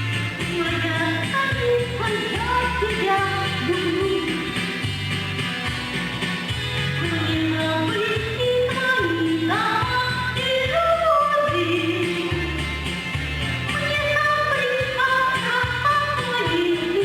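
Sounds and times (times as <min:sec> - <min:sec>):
woman singing: 0:00.0 - 0:04.8, 0:07.0 - 0:12.9, 0:13.7 - 0:17.0
instrumental accompaniment: 0:00.0 - 0:17.0.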